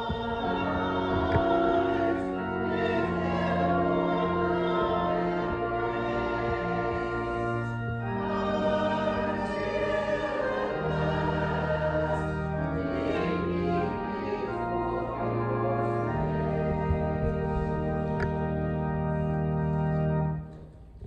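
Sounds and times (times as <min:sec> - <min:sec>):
choir singing sustained chords: 0:00.0 - 0:20.4
instrumental accompaniment: 0:00.0 - 0:21.0.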